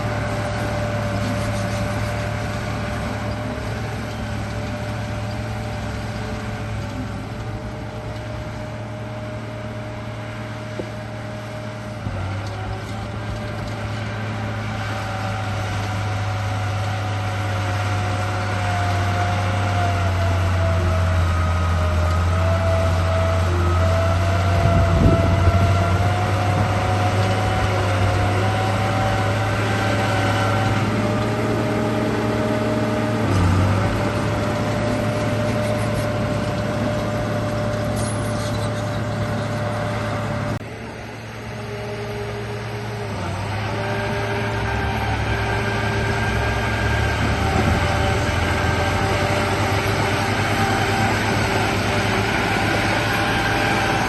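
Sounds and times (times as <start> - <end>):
rc bulldozer motor whine: 0.0 - 54.0.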